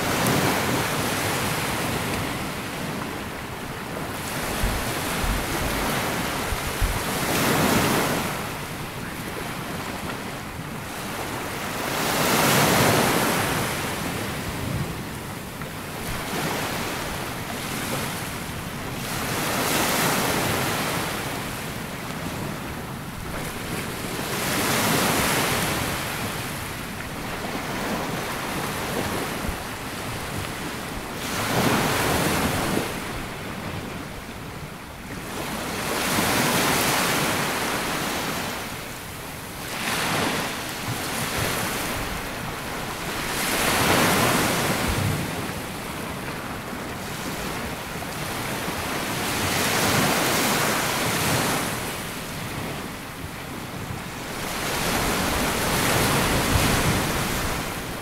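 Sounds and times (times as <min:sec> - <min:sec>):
sea waves breaking on sand: 0:00.0 - 0:58.0
wind noise on microphone: 0:00.0 - 0:58.0.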